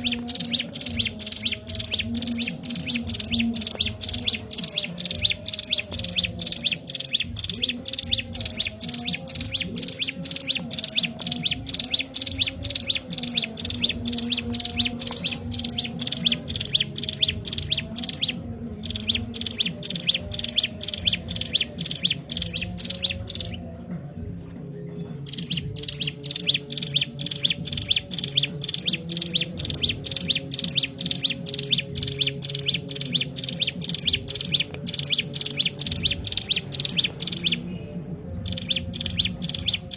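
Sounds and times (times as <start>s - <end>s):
bird singing sharp high chirps: 0.0s - 23.7s, 25.1s - 39.9s.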